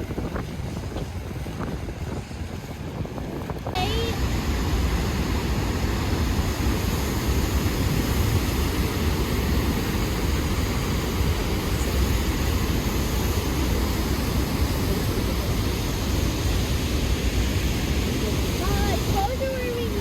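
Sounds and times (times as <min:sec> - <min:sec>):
waterfall roar: 0:03.7 - 0:20.0.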